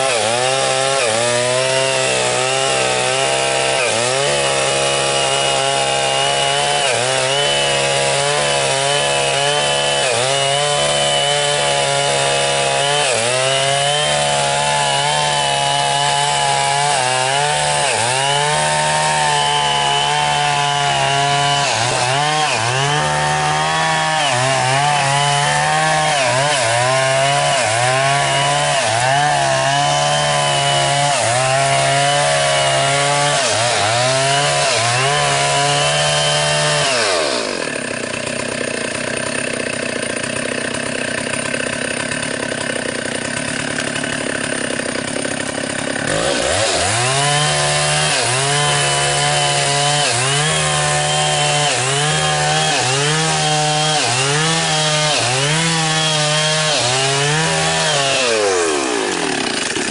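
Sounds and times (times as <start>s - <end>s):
chainsaw cutting into tree trunk: 0.0s - 59.9s.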